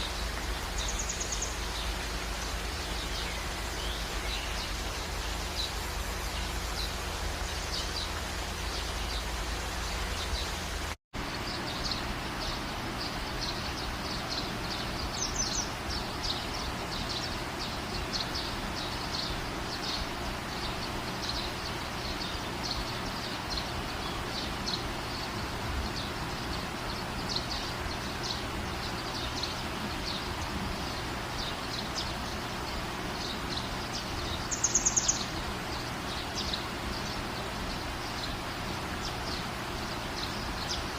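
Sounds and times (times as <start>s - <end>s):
small birds chirping: 0.0s - 40.9s
steady rain: 0.0s - 40.9s.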